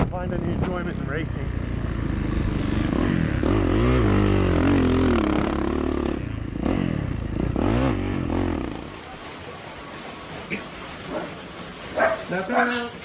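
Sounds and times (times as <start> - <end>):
dirt bike engine revving: 0.2 - 13.0.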